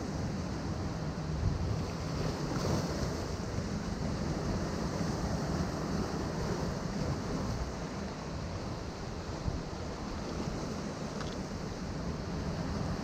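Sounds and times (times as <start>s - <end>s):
ocean surf washing against rocks: 0.0s - 13.0s
wind rumble on microphone: 0.0s - 13.0s.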